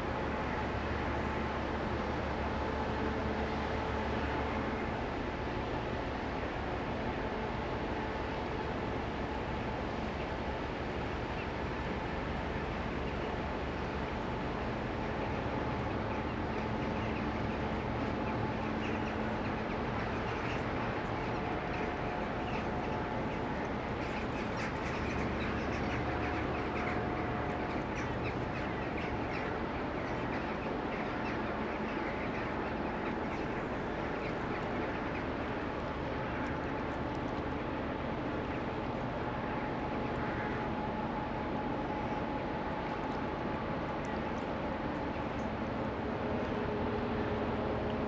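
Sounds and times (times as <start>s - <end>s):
constant humming tone: 0.0s - 48.0s
ship engine rumble and drone: 0.0s - 48.0s.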